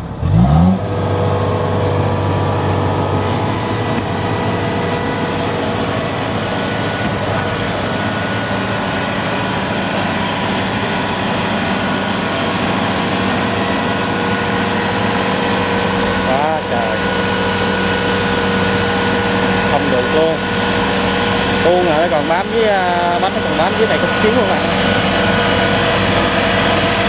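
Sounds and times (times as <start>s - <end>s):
combine harvester diesel engine: 0.0s - 27.0s.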